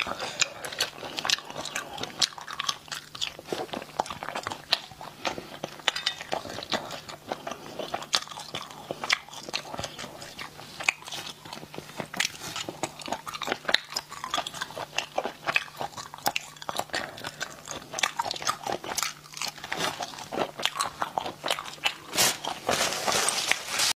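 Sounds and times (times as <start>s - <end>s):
person chewing and biting: 0.0s - 23.9s.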